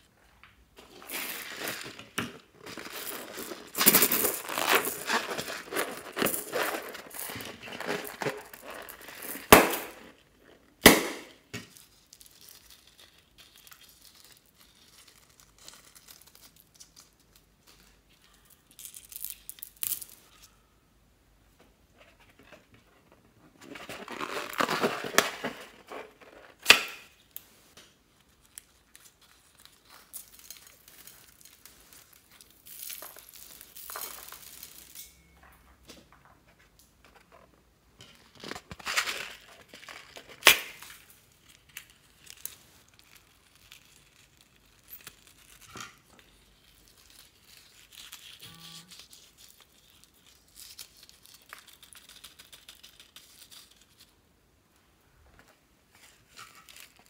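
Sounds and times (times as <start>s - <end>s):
rubber crinkling in fingers: 0.1s - 10.8s, 11.7s - 20.6s, 23.8s - 35.0s, 36.2s - 54.2s, 55.4s - 57.0s.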